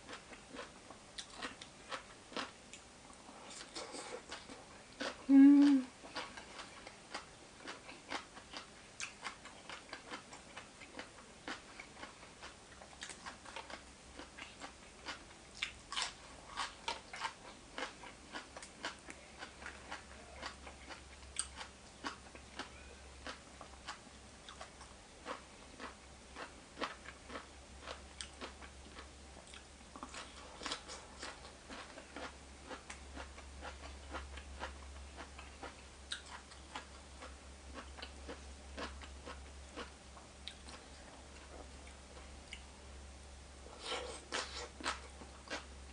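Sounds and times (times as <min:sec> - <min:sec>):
chewing and crunching food: 0:00.0 - 0:42.7, 0:43.6 - 0:45.9.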